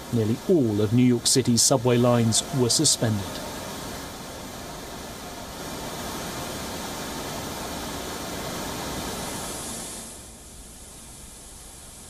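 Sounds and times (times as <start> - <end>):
floodwater gushing: 0.0 - 10.1.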